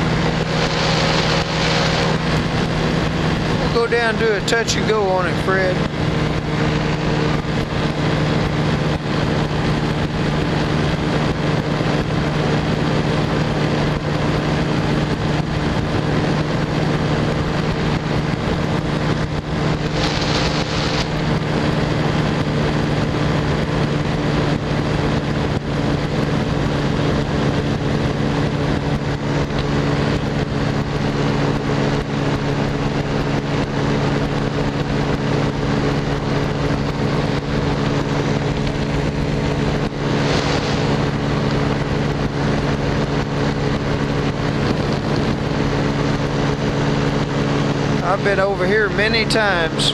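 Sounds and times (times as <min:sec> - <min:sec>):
small aircraft engine droning: 0:00.0 - 0:49.9
wind rushing over microphone: 0:00.0 - 0:49.9.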